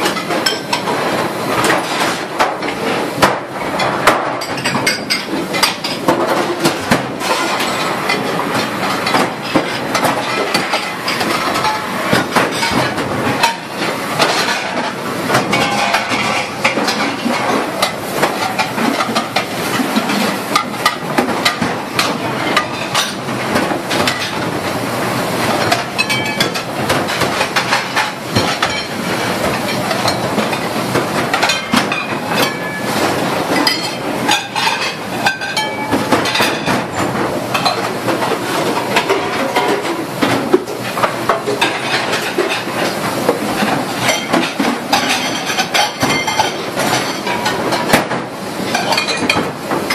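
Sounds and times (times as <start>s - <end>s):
dishes and pots clattering: 0.0s - 49.9s.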